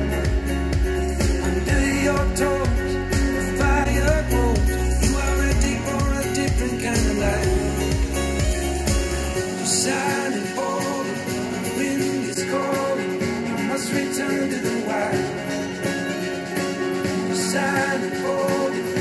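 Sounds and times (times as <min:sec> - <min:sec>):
rock song through speakers: 0:00.0 - 0:19.0.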